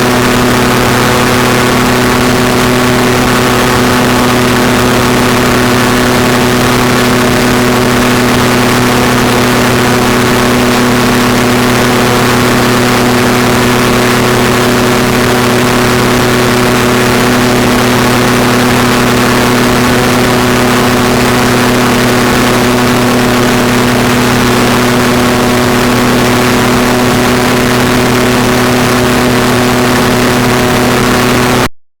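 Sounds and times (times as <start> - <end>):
noisy rush: 0.0 - 31.7
ultralight aircraft engine running: 0.0 - 31.7.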